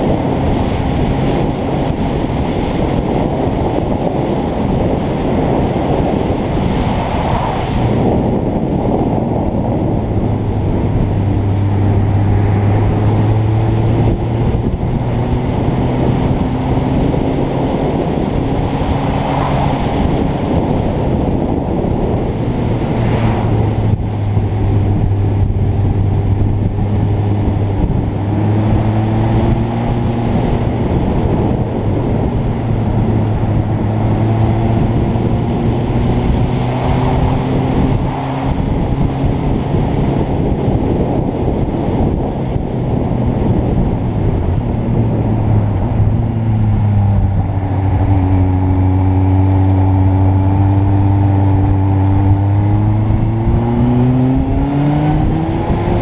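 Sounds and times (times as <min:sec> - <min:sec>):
motorcycle engine hum: 0:00.0 - 0:56.0
wind buffeting microphone: 0:00.0 - 0:56.0.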